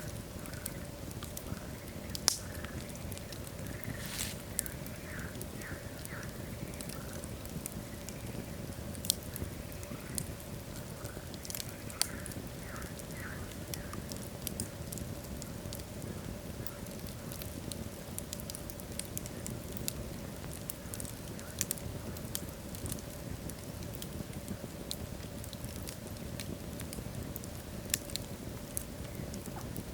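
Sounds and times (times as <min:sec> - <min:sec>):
low rumble of flames: 0:00.0 - 0:29.9
wood fire crackling and popping: 0:00.0 - 0:29.9.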